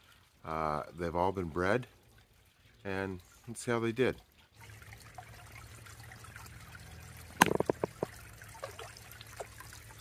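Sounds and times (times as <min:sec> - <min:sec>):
water trickling into pond: 0:00.0 - 0:10.0.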